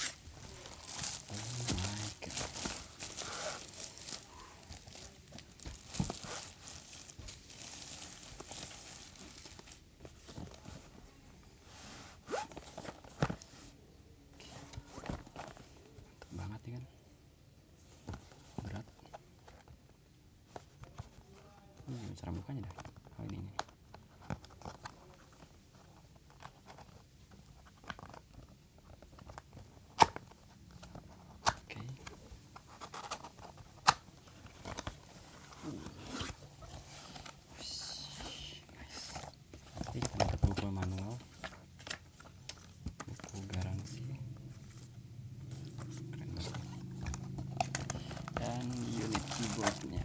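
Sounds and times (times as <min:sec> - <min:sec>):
packaging rustling and scraping: 0:00.0 - 0:13.8, 0:14.5 - 0:16.0, 0:23.8 - 0:50.0.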